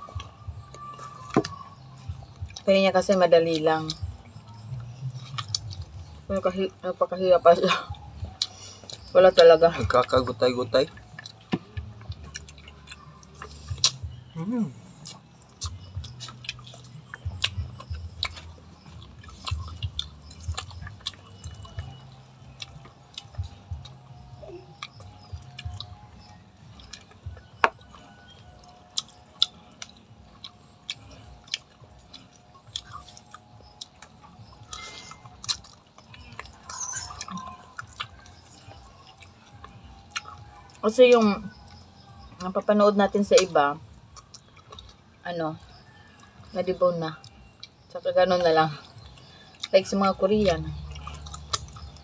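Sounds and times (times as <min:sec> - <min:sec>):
chewing with clicks and smacks: 0:00.0 - 0:52.0.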